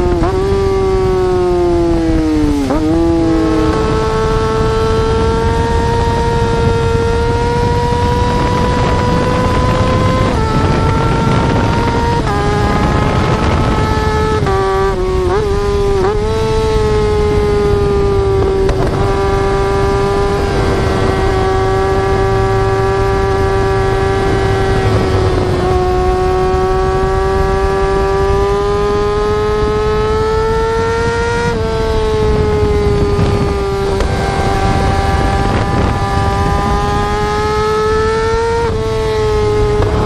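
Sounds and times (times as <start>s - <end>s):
motorcycle engine at high revs: 0.0s - 40.0s.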